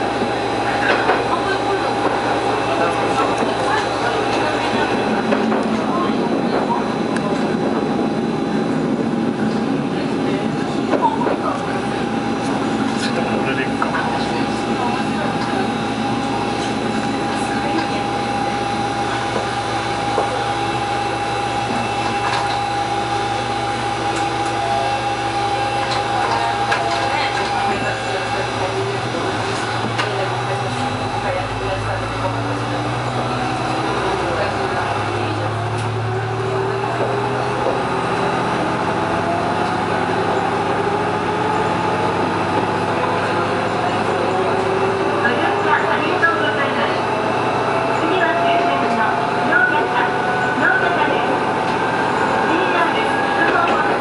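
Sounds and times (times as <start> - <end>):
railcar running drone: 0.0 - 54.0.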